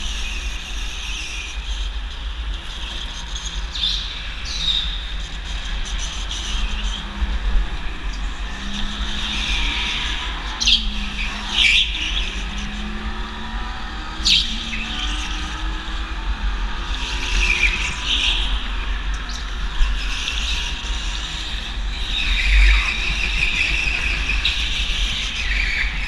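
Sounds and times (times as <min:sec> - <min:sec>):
go-kart engine rumble: 0:00.0 - 0:26.0.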